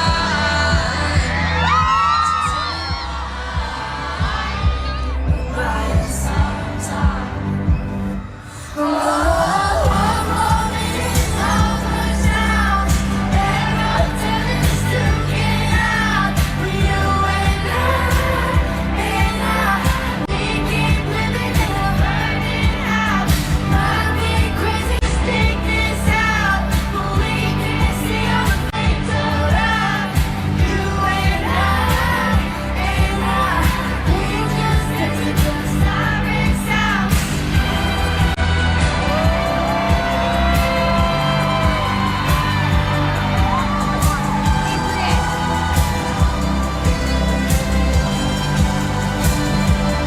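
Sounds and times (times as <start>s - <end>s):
steady drum beat: 0.0s - 7.9s, 9.8s - 50.0s
woman singing: 0.0s - 50.0s
synth bass line: 9.8s - 50.0s.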